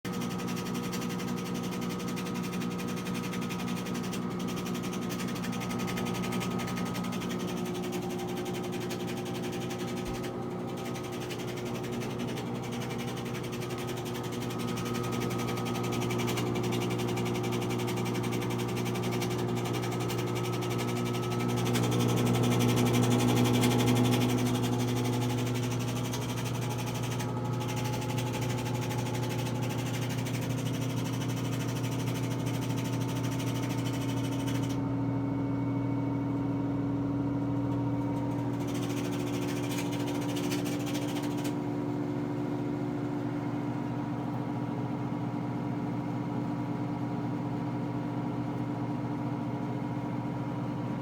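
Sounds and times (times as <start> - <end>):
washing machine spinning hum: 0.1 - 51.0.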